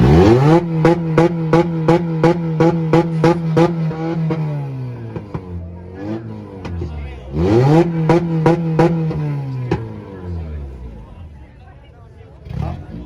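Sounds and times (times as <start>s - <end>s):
rev limiter pops: 0.0s - 11.2s
car engine on rev limiter: 0.0s - 11.6s, 12.2s - 13.0s.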